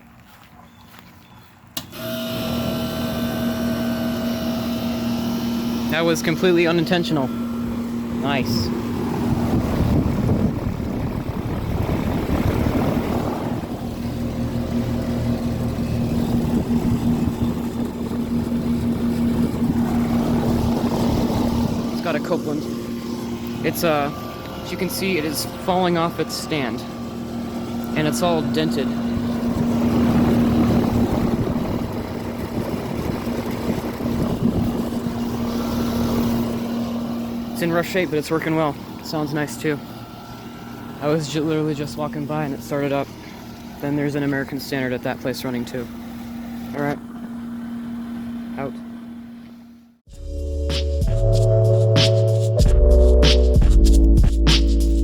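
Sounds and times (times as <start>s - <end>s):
compressor hum: 0.0s - 55.0s
condenser fan rushing: 1.6s - 50.0s.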